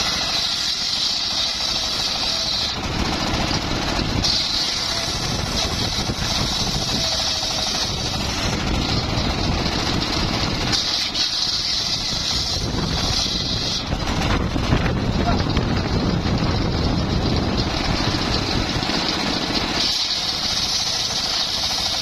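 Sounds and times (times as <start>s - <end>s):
high hiss of saw cutting: 0.0s - 14.2s, 17.9s - 22.0s
engine-driven sawmill running: 0.0s - 22.0s.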